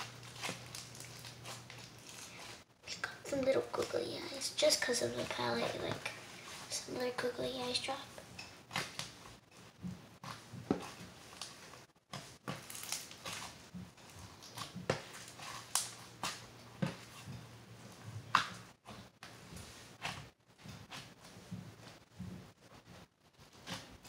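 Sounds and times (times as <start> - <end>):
slime squishing with sticky pops: 0.0 - 7.7, 8.4 - 22.2.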